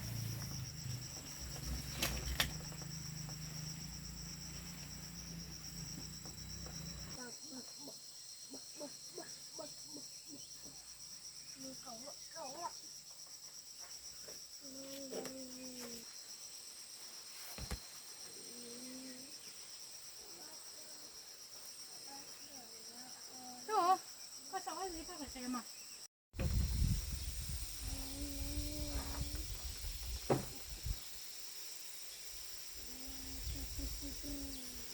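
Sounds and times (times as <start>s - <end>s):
insects chirping: 0.0s - 34.9s.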